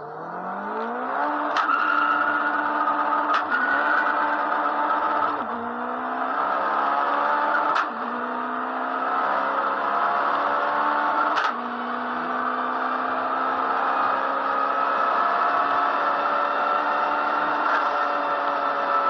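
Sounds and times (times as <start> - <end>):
car engine pulling hard: 0.0 - 19.0.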